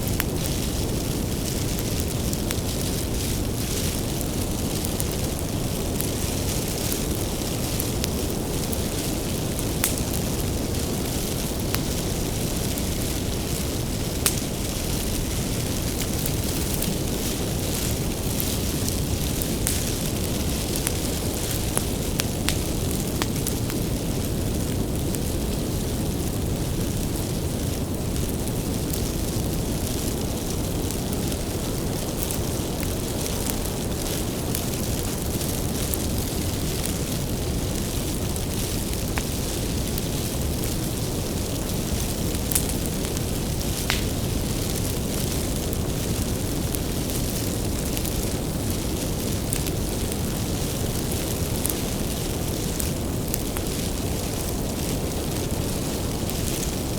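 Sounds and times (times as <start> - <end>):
crackling and popping firewood: 0.0 - 56.9
rush of bonfire flames: 0.0 - 56.9.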